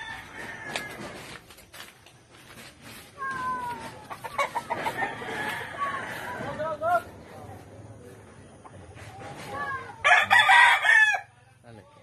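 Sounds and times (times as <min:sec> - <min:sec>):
chickens clucking and calling: 0:00.0 - 0:11.2.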